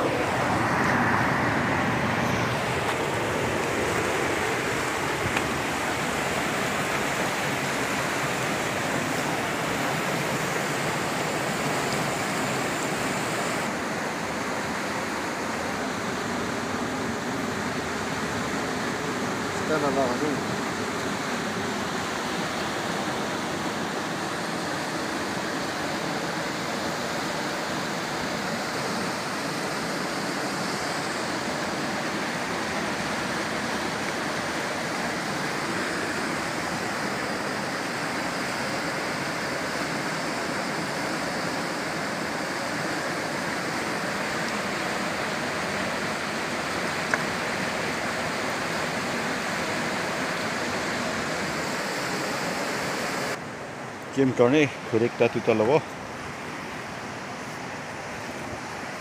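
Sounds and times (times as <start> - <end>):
river water flowing over rocks: 0.0 - 59.0.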